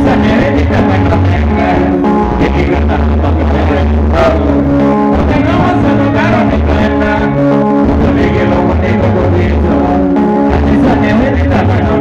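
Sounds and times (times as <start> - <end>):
drum kit: 0.0 - 12.0
electric bass line: 0.0 - 12.0
electric guitars: 0.0 - 12.0
person singing: 0.0 - 12.0.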